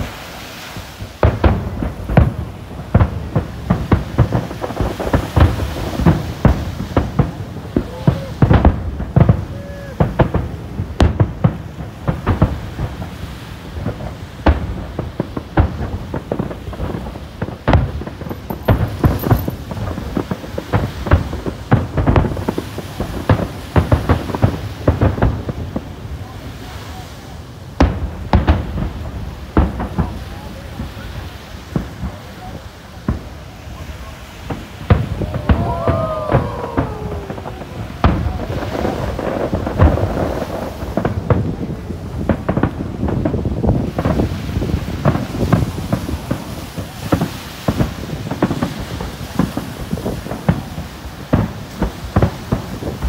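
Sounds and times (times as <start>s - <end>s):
fireworks bursting: 0.0s - 53.0s
fireworks crackling: 0.0s - 53.0s
loud fireworks booms: 0.0s - 53.0s.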